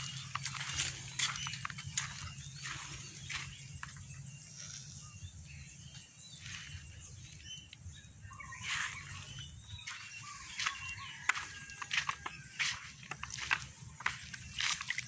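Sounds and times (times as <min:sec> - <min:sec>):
footsteps in wet mud: 0:00.0 - 0:04.5, 0:05.8 - 0:15.0
small birds chirping: 0:00.0 - 0:15.0.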